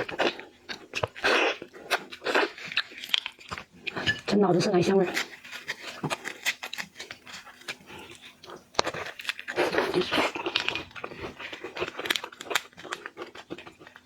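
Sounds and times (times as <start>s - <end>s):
shrimp shell crackling when chewed: 0.0s - 14.0s.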